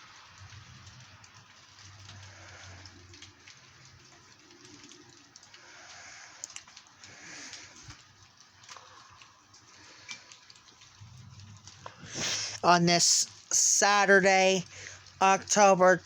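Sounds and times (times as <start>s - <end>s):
drips ticking: 0.0s - 16.0s
steady rain: 0.0s - 16.0s.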